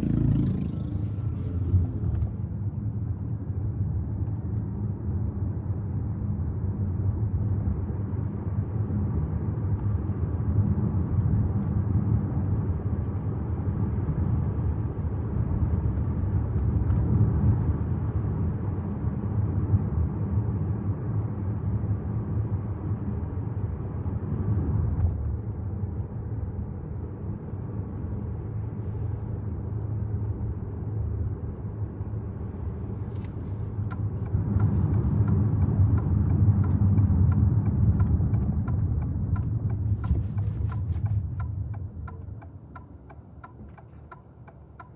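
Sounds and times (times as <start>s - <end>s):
road and engine rumble: 0.0s - 44.9s.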